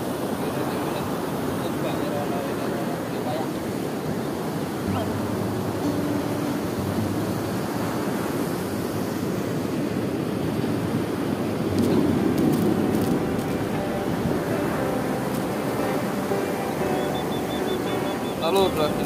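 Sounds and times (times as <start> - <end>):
ocean surf breaking on beach: 0.0 - 19.0
wind on microphone: 3.6 - 19.0.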